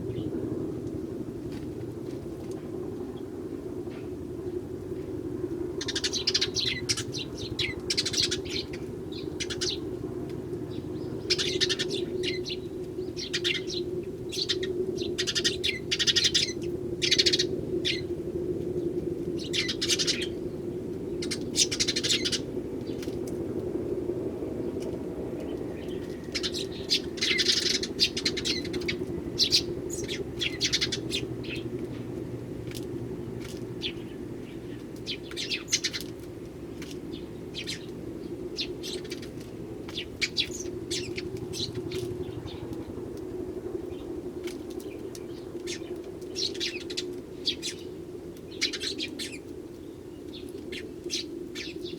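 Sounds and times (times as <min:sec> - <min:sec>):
sparrows chirping: 0:00.0 - 0:00.4, 0:05.8 - 0:18.1, 0:18.8 - 0:23.3, 0:24.6 - 0:43.0, 0:43.8 - 0:51.9.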